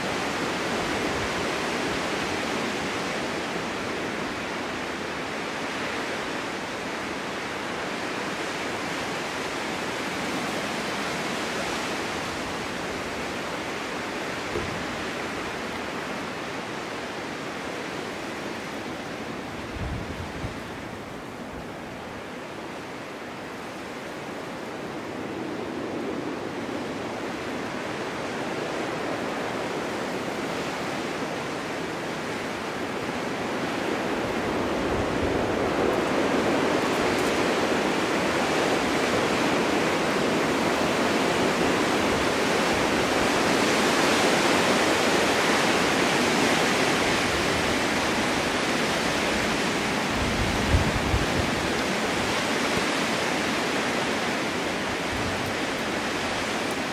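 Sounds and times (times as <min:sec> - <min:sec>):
low wind buffets: 0:00.0 - 0:56.9
snowstorm wind blowing: 0:00.0 - 0:56.9.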